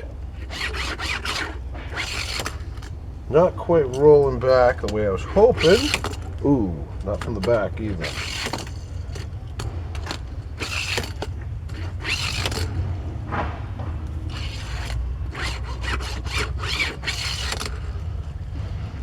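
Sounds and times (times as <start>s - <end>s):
toy car wheels whirring: 0.0s - 19.0s.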